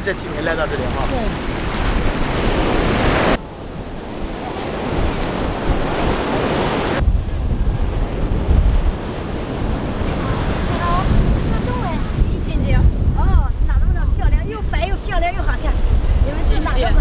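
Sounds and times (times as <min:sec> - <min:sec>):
low wind rumble: 0:00.0 - 0:17.0
ocean surf breaking on beach: 0:00.0 - 0:17.0
wind buffeting microphone: 0:00.0 - 0:17.0.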